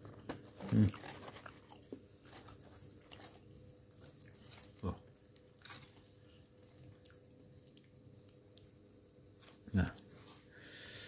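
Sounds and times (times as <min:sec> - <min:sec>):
faint steady hum: 0:00.0 - 0:11.0
person chewing food: 0:00.5 - 0:11.0.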